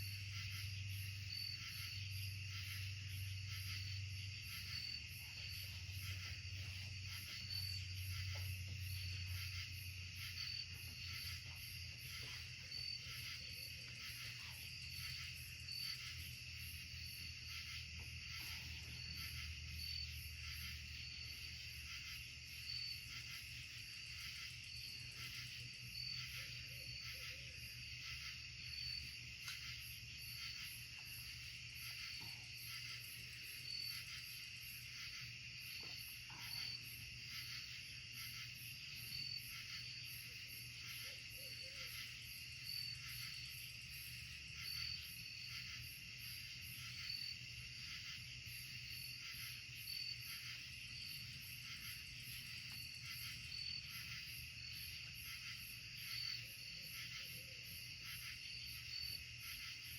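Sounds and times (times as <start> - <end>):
crickets and katydids trilling: 0.0 - 59.9
high insect chirp: 0.0 - 59.9.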